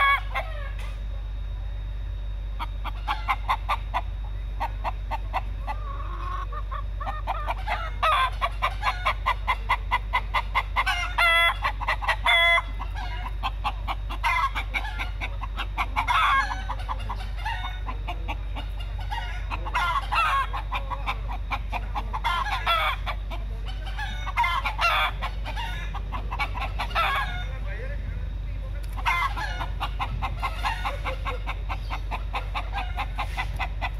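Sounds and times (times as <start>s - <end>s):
loud chicken calls: 0.0s - 0.9s, 2.6s - 27.8s, 29.0s - 33.9s
chickens clucking: 0.0s - 1.3s, 2.5s - 33.9s.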